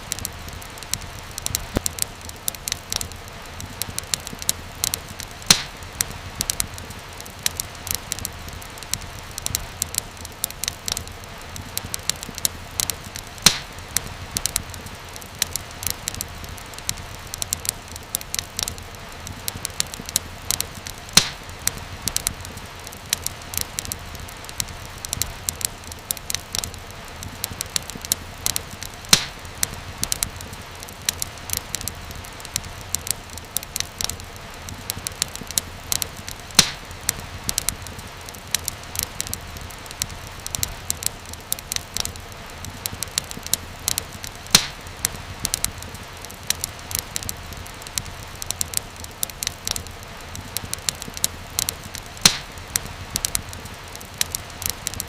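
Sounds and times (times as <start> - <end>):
low rumble and hiss: 0.0 - 55.0
wood fire crackling and popping: 0.0 - 55.0.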